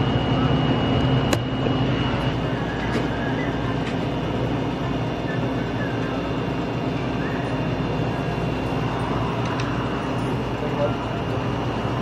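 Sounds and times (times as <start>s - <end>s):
low rumble and hum: 0.0s - 12.0s.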